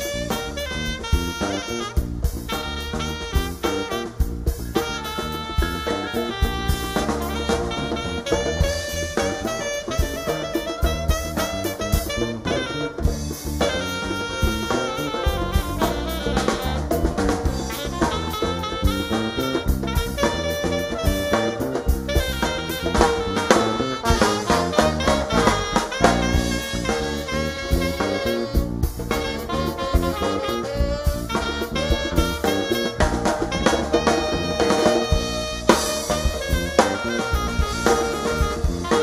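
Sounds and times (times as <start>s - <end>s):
alto saxophone solo: 0.0s - 39.0s
brass backing: 0.0s - 39.0s
drum kit: 0.0s - 39.0s.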